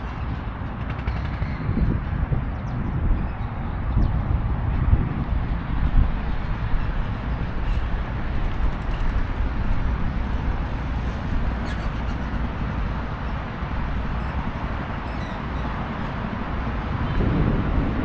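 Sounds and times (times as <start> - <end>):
road traffic rumble and hiss: 0.0 - 18.0.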